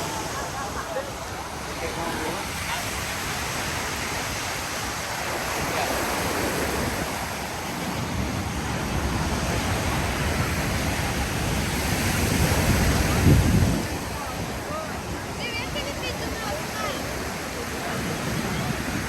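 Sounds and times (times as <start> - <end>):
ocean surf washing onto beach: 0.0 - 19.0
wind rumble on microphone: 0.0 - 19.0.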